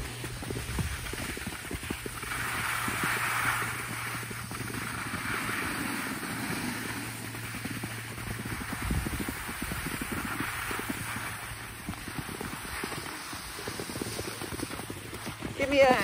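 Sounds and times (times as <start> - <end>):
snow crunching: 0.0 - 16.0
snowboard scraping over snow: 0.0 - 16.0
steady low hum: 0.0 - 16.0.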